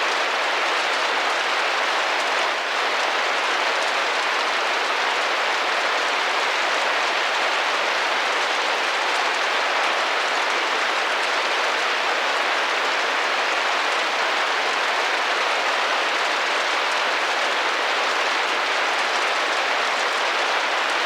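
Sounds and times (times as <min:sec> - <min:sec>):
rain pattering on a window: 0:00.0 - 0:21.0.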